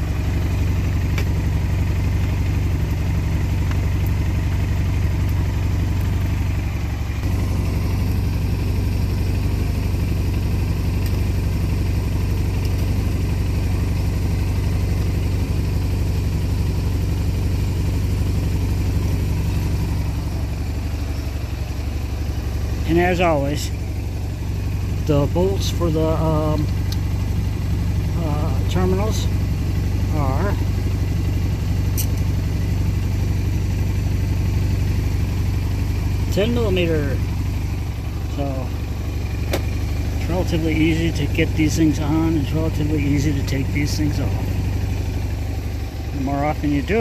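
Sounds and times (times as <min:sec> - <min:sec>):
scooter engine idling: 0:00.0 - 0:47.0.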